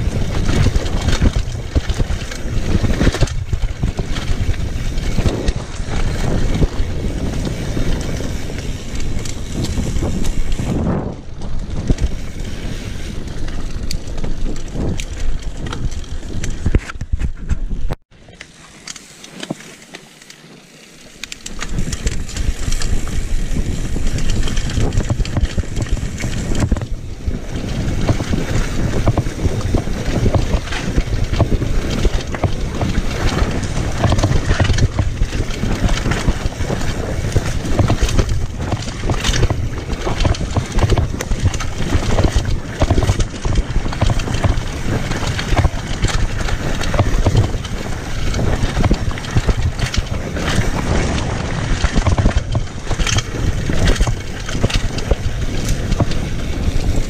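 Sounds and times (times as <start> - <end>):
wind rushing over microphone: 0.0 - 18.0, 21.6 - 57.0
bike rattling over bumps: 0.0 - 57.0.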